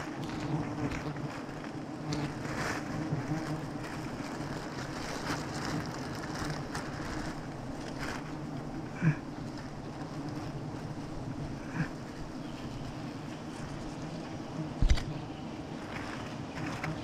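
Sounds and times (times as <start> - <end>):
plastic bag crinkling: 0.0 - 13.9
honeybees buzzing: 0.0 - 17.0.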